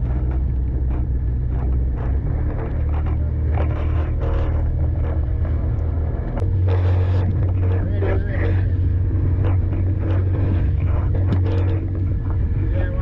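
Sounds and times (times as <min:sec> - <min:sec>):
boat engine droning: 0:00.0 - 0:13.0
wind on microphone: 0:00.0 - 0:13.0.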